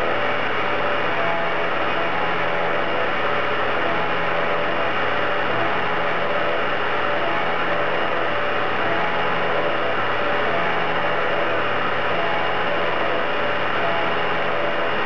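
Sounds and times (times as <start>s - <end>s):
milling machine cutting metal: 0.0s - 15.0s.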